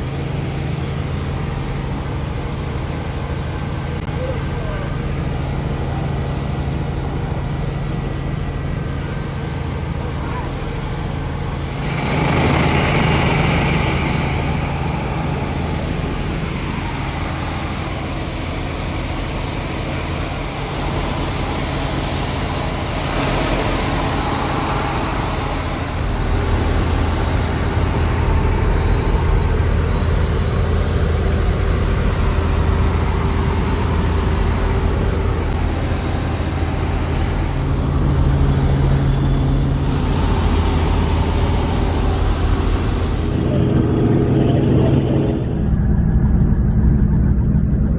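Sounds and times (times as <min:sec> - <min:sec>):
helicopter engine and rotor: 0:00.0 - 0:47.9.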